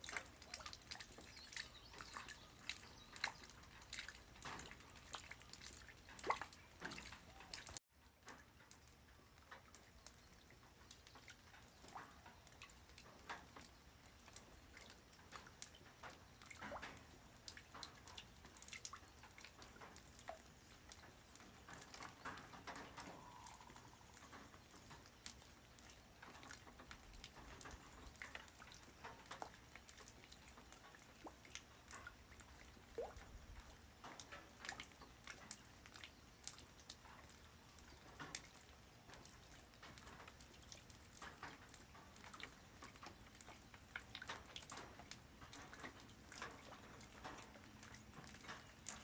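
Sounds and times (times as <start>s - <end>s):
light rain drops ticking: 0.0s - 49.0s.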